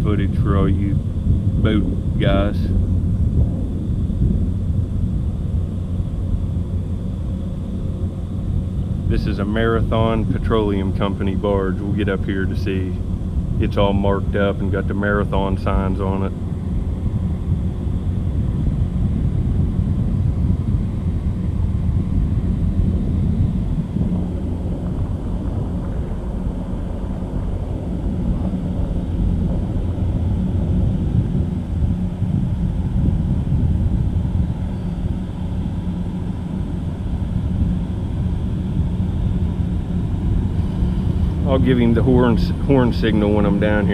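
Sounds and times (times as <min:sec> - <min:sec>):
boat diesel engines droning: 0:00.0 - 0:43.9.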